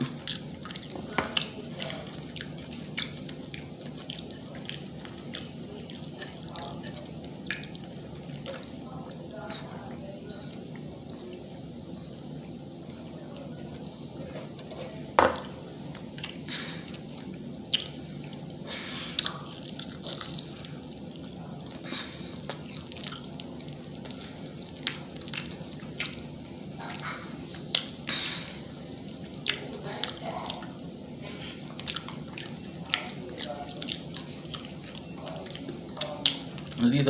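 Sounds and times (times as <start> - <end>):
person eating chewing: 0.0 - 9.5, 13.6 - 37.0
steady low hum: 0.0 - 37.0.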